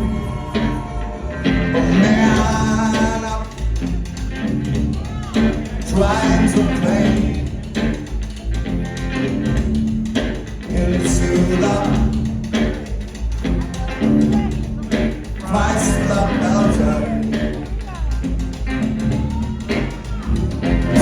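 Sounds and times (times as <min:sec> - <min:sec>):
bass line: 0:00.0 - 0:21.0
drums: 0:00.0 - 0:21.0
guitar: 0:00.0 - 0:21.0
rock band playing live: 0:00.0 - 0:21.0.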